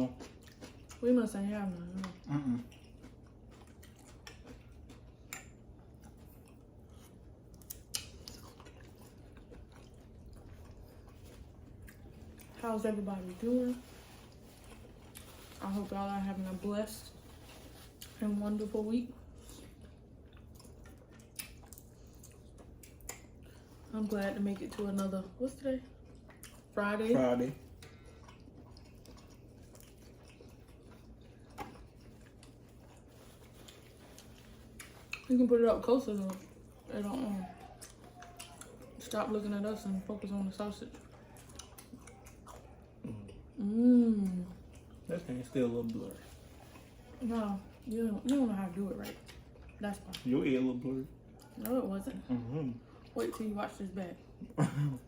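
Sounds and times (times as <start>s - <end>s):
person chewing food: 0.0s - 1.0s, 1.8s - 15.7s, 16.4s - 18.3s, 19.1s - 25.2s, 25.8s - 39.4s, 40.9s - 51.7s
low steady hum: 0.0s - 55.0s.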